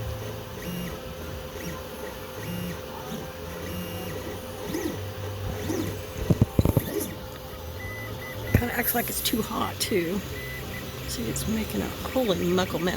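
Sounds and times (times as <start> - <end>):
steady printer hum: 0.0 - 12.9
stepper motors whirring: 0.0 - 12.9.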